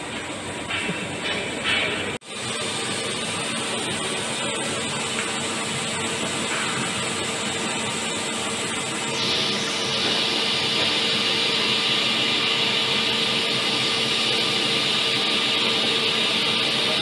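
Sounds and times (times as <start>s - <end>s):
machine spindle whirring: 0.6s - 17.0s
coolant hissing: 2.2s - 17.0s.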